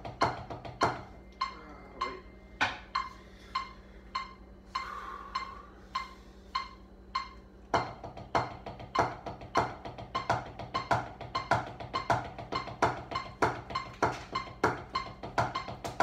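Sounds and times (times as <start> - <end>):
drumsticks tapping practice pad: 0.0 - 16.0.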